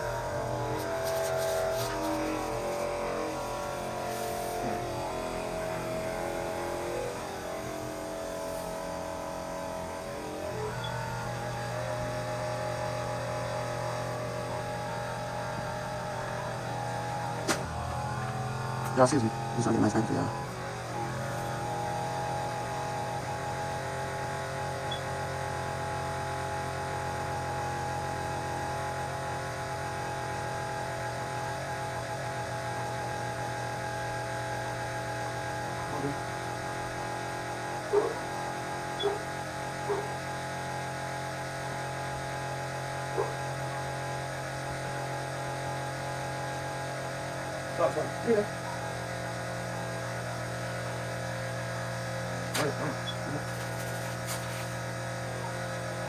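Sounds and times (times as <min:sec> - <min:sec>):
carpet cleaning machine humming: 0:00.0 - 0:56.0.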